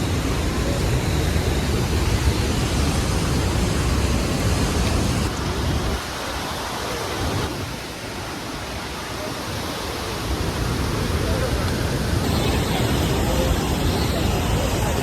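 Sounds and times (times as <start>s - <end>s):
rushing waterfall: 0.0s - 15.0s.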